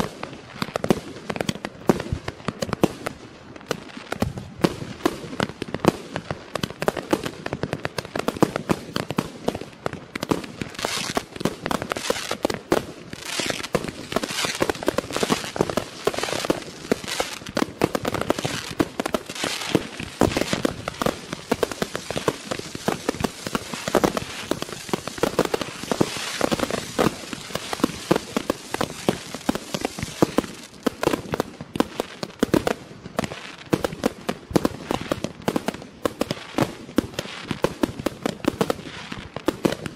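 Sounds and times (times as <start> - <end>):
fireworks launching and bursting: 0.0 - 39.9.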